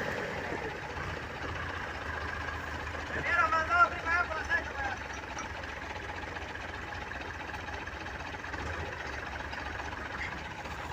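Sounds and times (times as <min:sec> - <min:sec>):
tractor diesel engine rumbling: 0:00.0 - 0:10.9.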